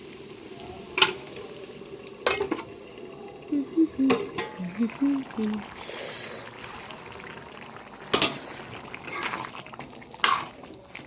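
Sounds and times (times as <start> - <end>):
food bubbling in a pot: 0.0 - 11.0.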